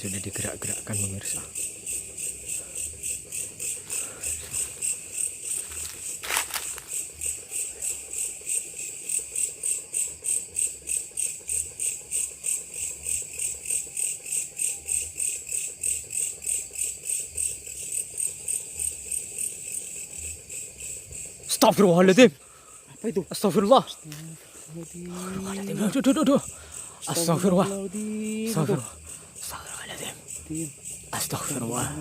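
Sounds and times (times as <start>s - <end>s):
insect chirping: 0.0s - 32.0s.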